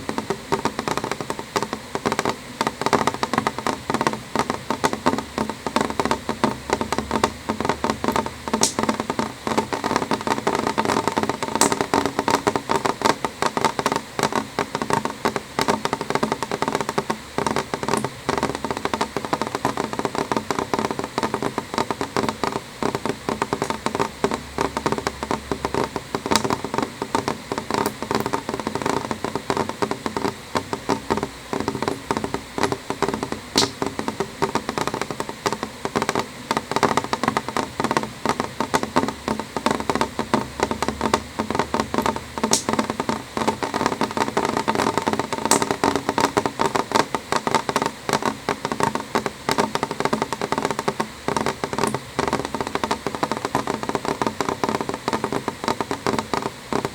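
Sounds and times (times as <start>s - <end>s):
rain on window glass: 0.0s - 56.9s.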